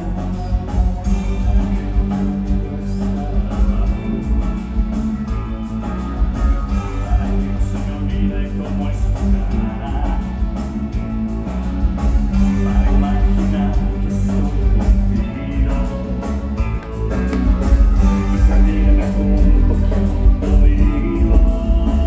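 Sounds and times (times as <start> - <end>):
rock music over loudspeakers: 0.0 - 22.0.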